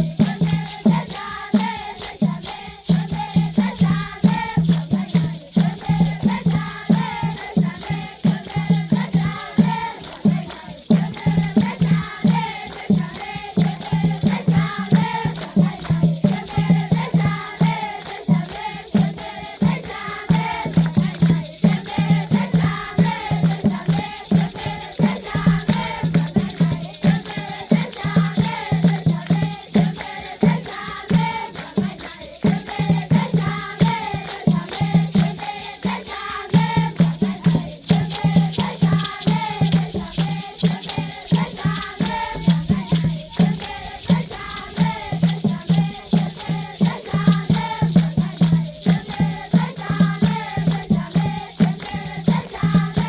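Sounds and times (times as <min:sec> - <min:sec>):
children singing in chorus: 0:00.0 - 0:53.0
rattles shaking: 0:00.0 - 0:53.0.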